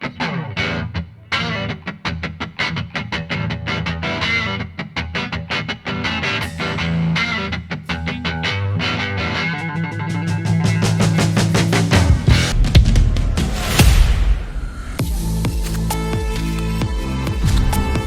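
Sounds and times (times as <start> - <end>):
guitar over fast beat: 0.0 - 18.0.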